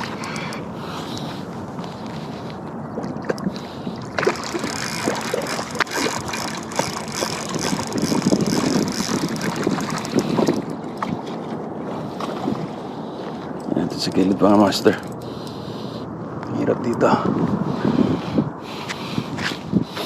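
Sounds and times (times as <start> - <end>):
water noise: 0.0 - 20.0
wind buffeting the microphone: 0.0 - 20.0.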